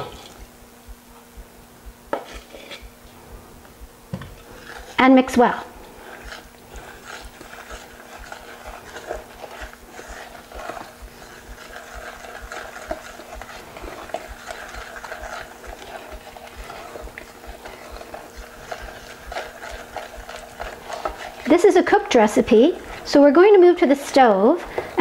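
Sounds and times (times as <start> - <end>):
faint steady hum: 0.0 - 25.0
wooden spoon stirring in saucepan: 2.1 - 25.0.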